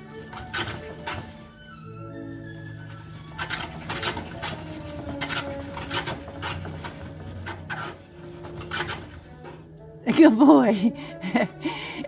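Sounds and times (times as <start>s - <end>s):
wooden exercise wheel scraping: 0.0s - 12.0s.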